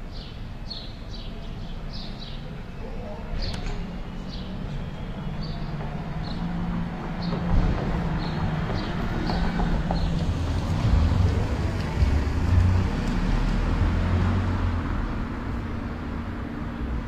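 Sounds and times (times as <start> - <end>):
tyre and road noise: 3.2 - 17.0.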